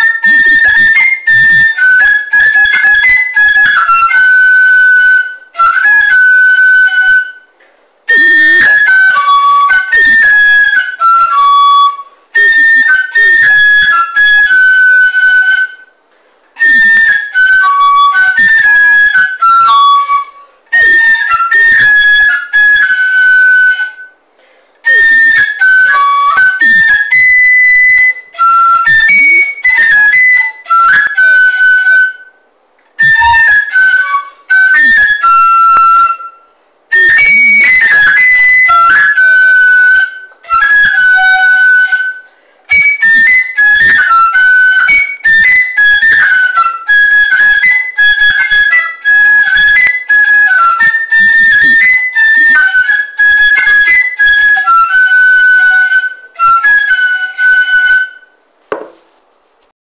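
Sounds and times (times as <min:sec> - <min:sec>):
high-pitched woodwind melody: 0:00.0 - 0:24.2, 0:24.8 - 0:58.4.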